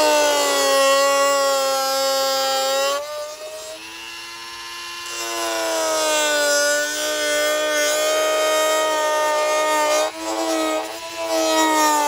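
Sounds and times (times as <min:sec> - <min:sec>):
rotary tool grinding plastic: 0:00.0 - 0:12.0.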